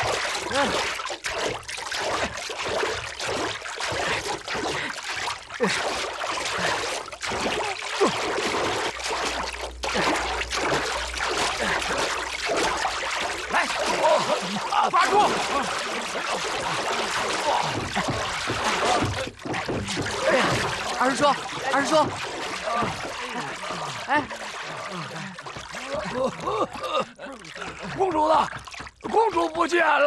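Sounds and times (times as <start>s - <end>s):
river water splashing: 0.0s - 26.6s.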